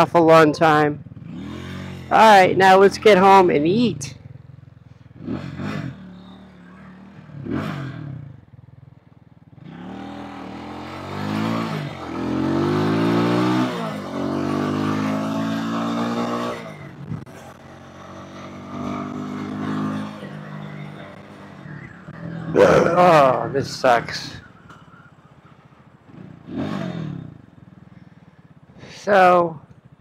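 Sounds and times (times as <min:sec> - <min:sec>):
motorcycle engine accelerating: 0:00.6 - 0:30.0.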